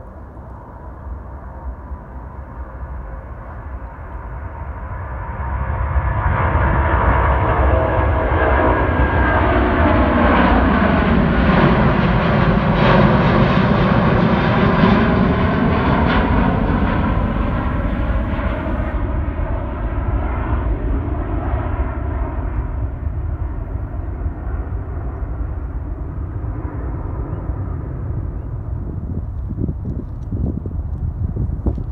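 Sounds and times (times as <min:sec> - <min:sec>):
jet engines at takeoff: 0:00.0 - 0:31.9.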